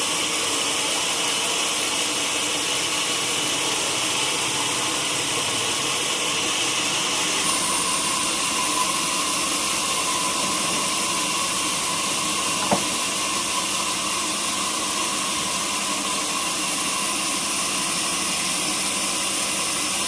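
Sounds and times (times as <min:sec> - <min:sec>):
sawmill saw running: 0:00.0 - 0:20.0.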